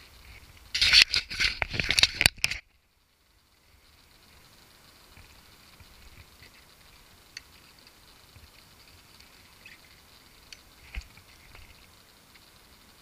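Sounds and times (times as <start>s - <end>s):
low hiss: 0.0s - 13.0s.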